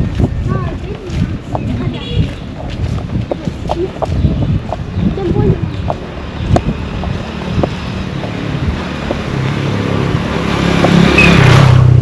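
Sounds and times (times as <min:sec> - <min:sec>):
vehicle passing rush: 0:00.0 - 0:12.0
motor vehicle engine approaching: 0:01.4 - 0:12.0.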